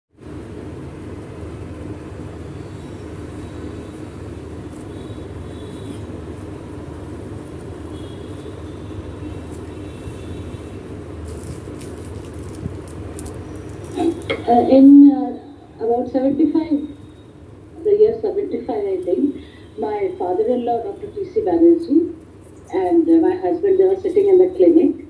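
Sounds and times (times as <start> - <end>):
faint hum: 0.1 - 25.0.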